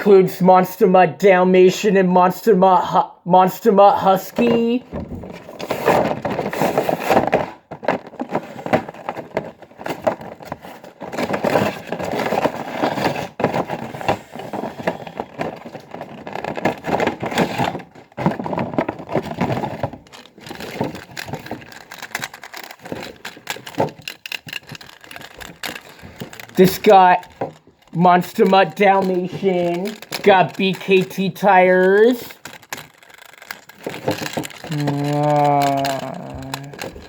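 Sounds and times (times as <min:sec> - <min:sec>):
packaging crinkling: 0:04.3 - 0:37.0.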